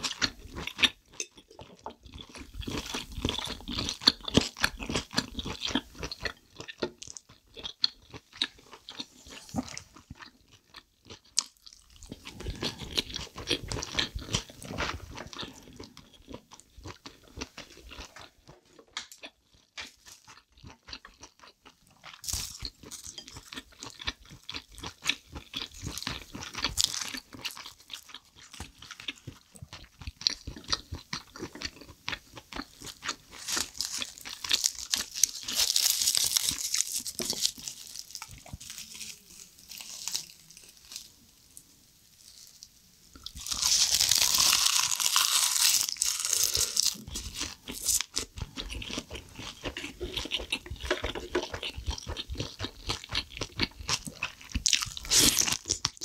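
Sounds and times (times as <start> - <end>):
crackling crunch of bite: 0.0 - 41.3, 42.2 - 56.0.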